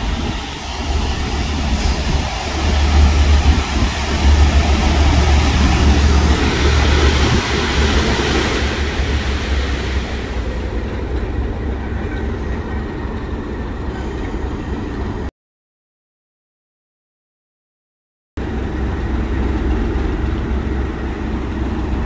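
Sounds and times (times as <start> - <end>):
diesel locomotive engine drone: 0.0 - 15.3, 18.4 - 22.0
rail noise: 0.0 - 15.3, 18.4 - 22.0.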